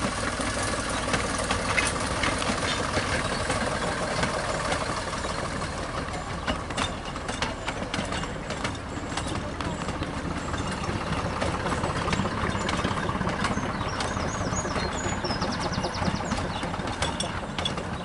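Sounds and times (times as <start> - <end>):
locomotive diesel engine running: 0.0 - 18.0
train wheels clicking on track: 0.0 - 18.0.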